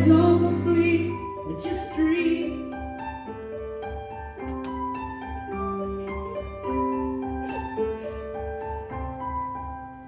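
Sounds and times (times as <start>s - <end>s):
piano notes: 0.0s - 10.0s.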